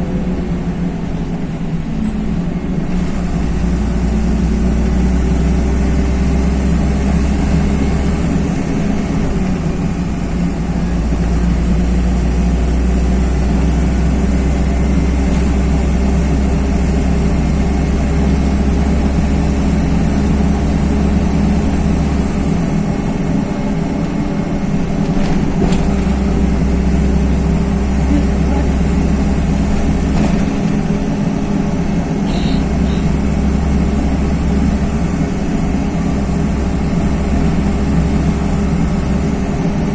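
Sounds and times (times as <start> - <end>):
bus diesel engine droning: 0.0 - 39.9
road noise: 0.0 - 39.9.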